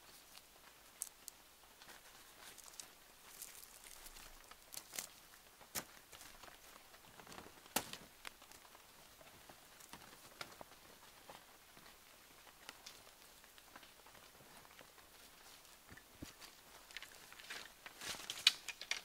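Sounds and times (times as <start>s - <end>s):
twigs and leaves crackling: 0.0s - 19.0s.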